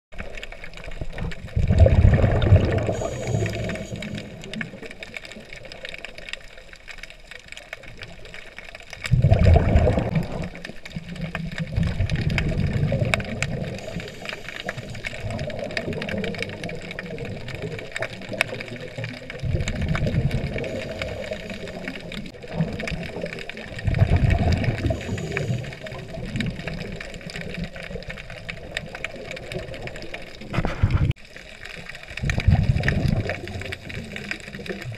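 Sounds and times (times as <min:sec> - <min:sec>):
exhaled bubbles rushing underwater: 0:00.2 - 0:34.9
steady crackling hiss: 0:00.2 - 0:34.9.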